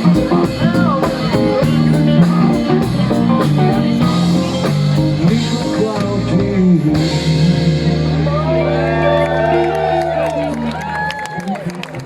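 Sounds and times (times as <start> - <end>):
pop-rock band playing: 0.0 - 12.0.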